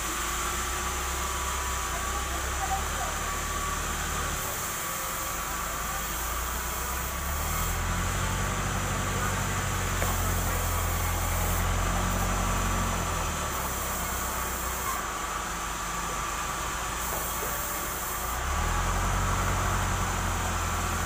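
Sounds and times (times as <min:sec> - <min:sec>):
band saw running: 0:00.0 - 0:21.0.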